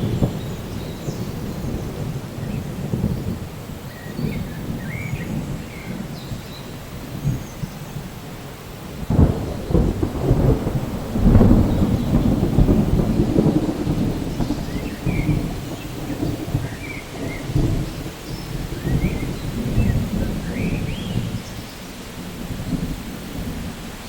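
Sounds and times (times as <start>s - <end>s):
steady rain: 0.0s - 24.0s
thunder clap and rumbles: 0.0s - 24.0s.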